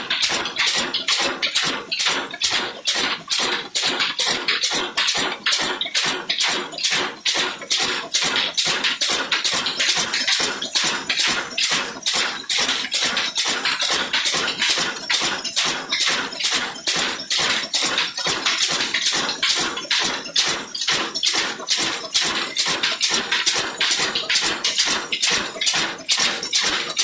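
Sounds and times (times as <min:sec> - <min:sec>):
diesel engine chuffing: 0:00.0 - 0:27.0.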